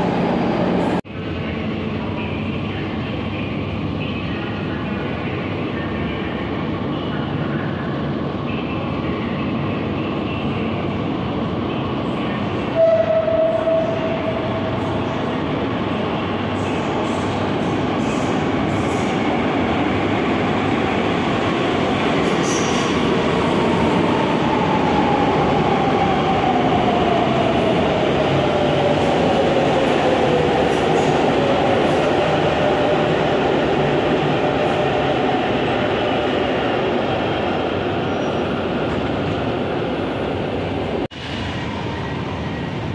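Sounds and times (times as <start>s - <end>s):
metro train rumbling: 0.0s - 42.9s.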